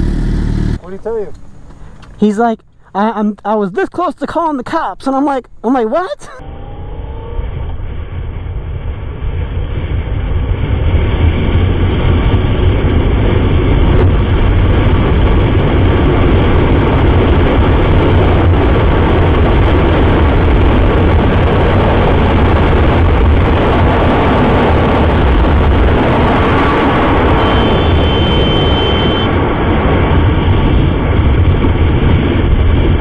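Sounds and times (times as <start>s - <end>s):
motorcycle running: 0.0s - 2.1s, 6.3s - 33.0s
wind rushing over microphone: 6.0s - 33.0s.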